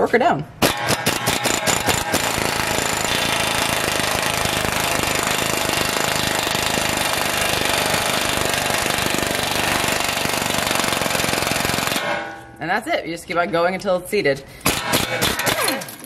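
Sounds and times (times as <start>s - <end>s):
impact wrench hammering: 0.6s - 12.6s, 14.6s - 16.0s.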